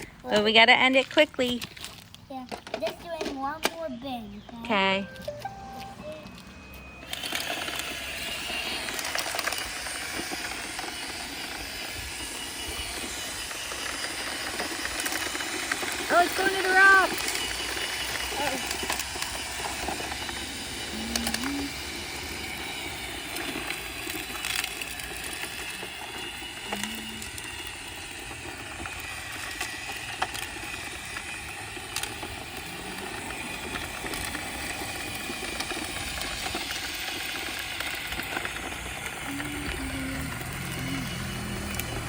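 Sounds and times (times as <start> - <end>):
robot vacuum whirring: 0.0 - 42.0.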